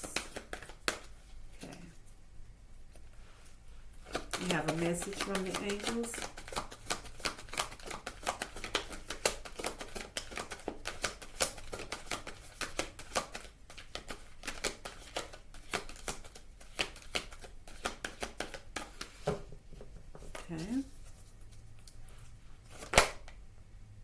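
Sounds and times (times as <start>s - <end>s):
cards being shuffled by hand: 0.0s - 2.0s, 2.9s - 23.4s.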